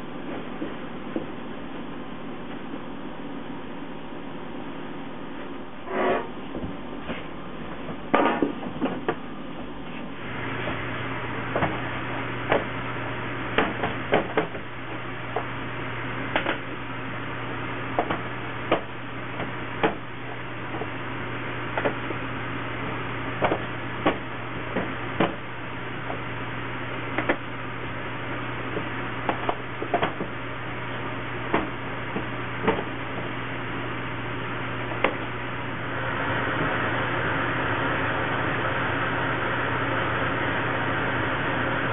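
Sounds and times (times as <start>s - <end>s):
low hum: 0.0s - 41.9s.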